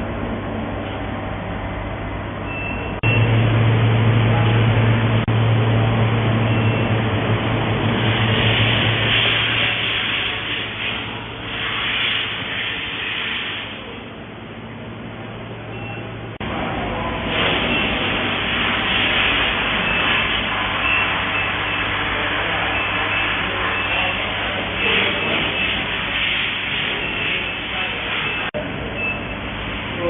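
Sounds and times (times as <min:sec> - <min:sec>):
rushing machine noise: 0:00.0 - 0:28.5
furnace humming: 0:00.0 - 0:30.0.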